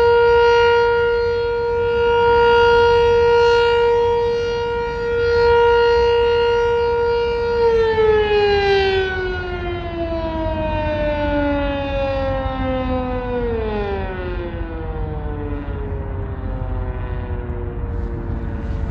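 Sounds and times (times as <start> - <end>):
warning siren winding down: 0.0 - 18.9.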